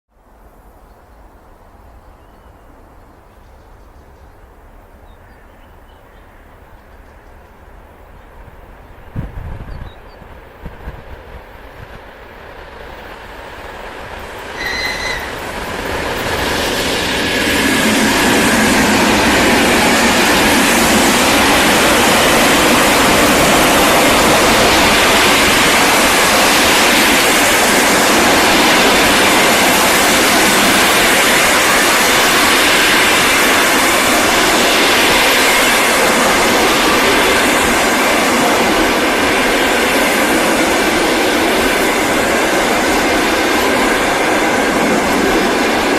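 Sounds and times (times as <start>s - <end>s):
electric train passing at speed: 0.2s - 45.9s.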